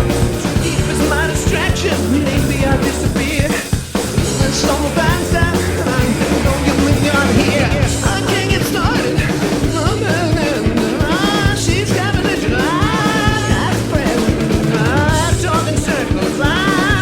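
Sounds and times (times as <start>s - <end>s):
bass guitar: 0.0s - 17.0s
drums: 0.0s - 17.0s
electric guitar: 0.0s - 17.0s
person singing: 0.2s - 17.0s.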